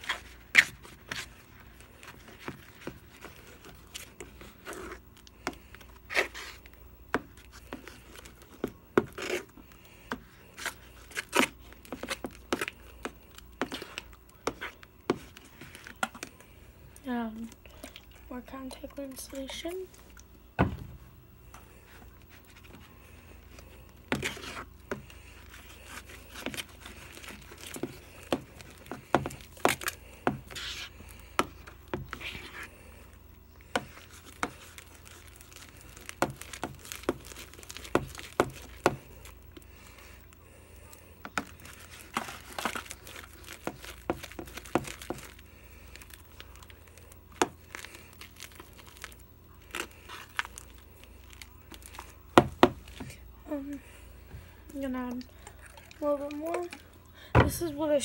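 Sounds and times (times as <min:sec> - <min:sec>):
slime squelching: 0:00.0 - 0:58.0.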